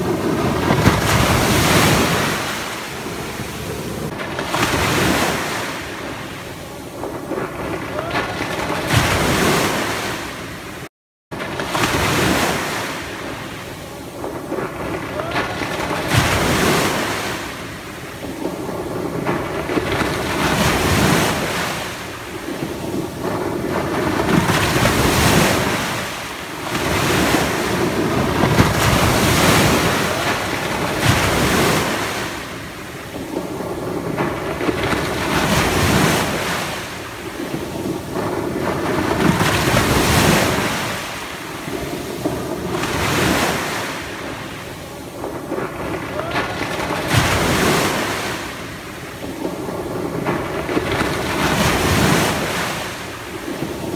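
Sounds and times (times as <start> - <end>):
waves washing up pebble beach: 0.0 - 53.9.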